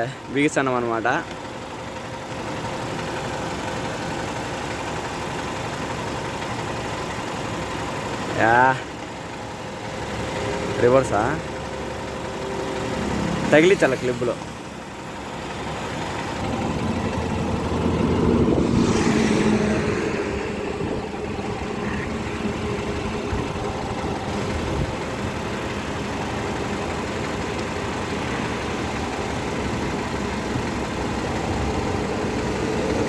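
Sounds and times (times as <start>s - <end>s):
truck diesel engine idling: 0.0s - 33.0s.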